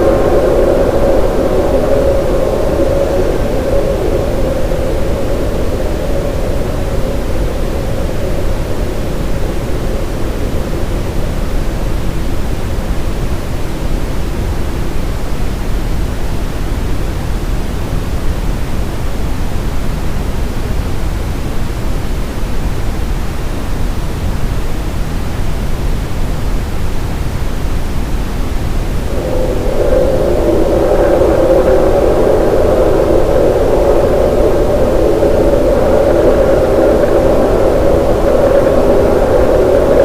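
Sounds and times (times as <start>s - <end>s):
brown noise with reverb: 0.0s - 40.0s.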